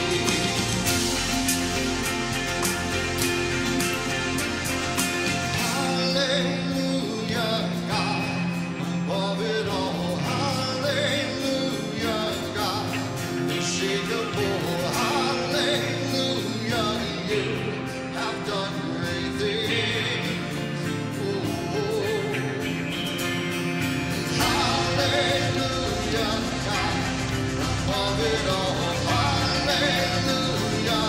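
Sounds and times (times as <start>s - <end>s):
worship band playing slow song: 0.0s - 31.0s
person singing: 5.3s - 23.2s, 24.0s - 31.0s.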